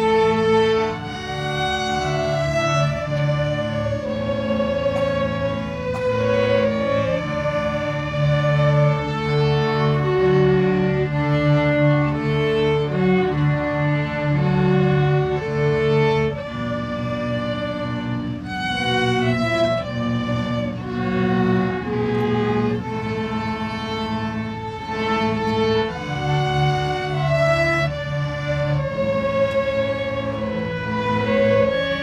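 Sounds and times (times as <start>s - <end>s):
bowed string music: 0.0s - 32.0s.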